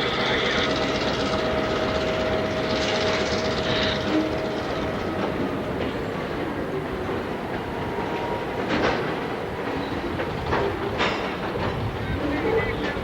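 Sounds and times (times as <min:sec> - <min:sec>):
train wheels clicking over rail joints: 0:00.0 - 0:13.0.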